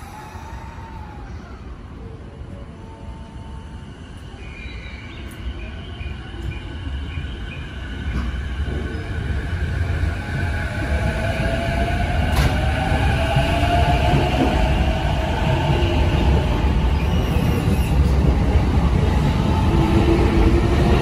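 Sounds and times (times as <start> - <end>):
train running noise: 0.0 - 21.0.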